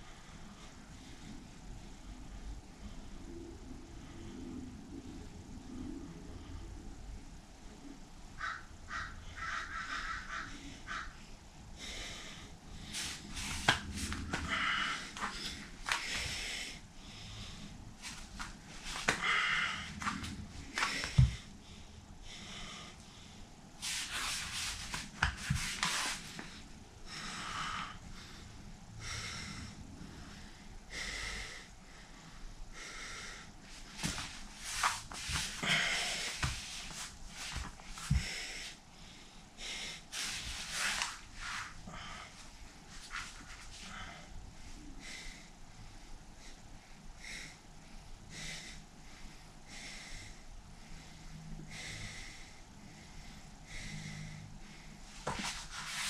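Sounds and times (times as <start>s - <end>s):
man breathing hard: 9.3s - 56.0s.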